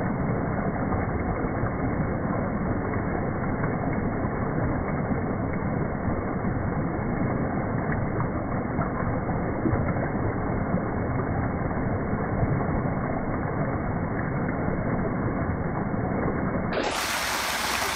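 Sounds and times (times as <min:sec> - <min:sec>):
waterfall splashing into pool: 0:00.0 - 0:17.9.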